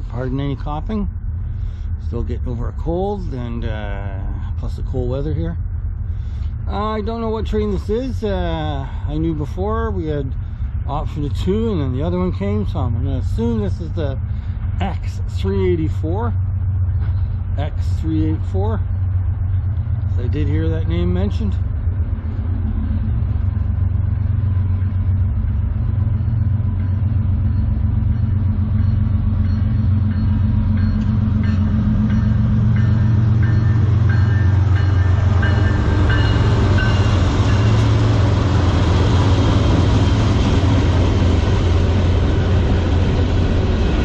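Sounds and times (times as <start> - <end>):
locomotive engine rumble: 0.0 - 44.0
train cars rolling on rails: 0.0 - 44.0.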